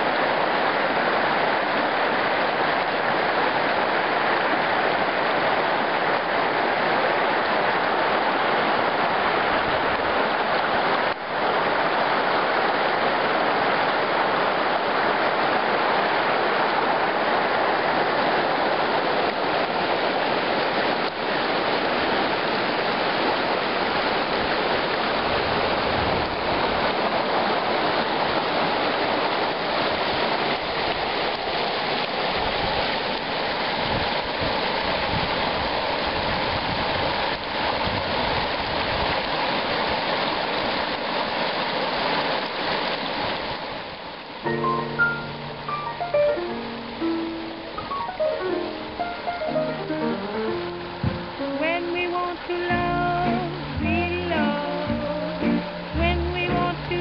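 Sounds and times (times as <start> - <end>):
creek rushing over rocks: 0.0 - 57.0.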